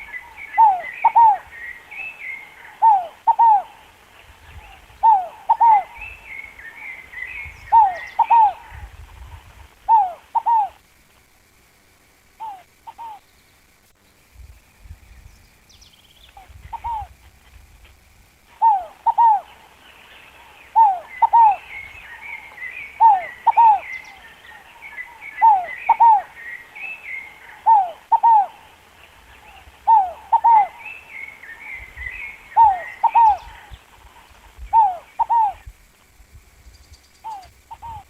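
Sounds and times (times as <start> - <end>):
dove cooing: 0.0 - 10.9, 12.4 - 13.2, 16.3 - 17.6, 18.5 - 35.7, 37.2 - 38.0
small songbirds twittering: 0.0 - 38.0.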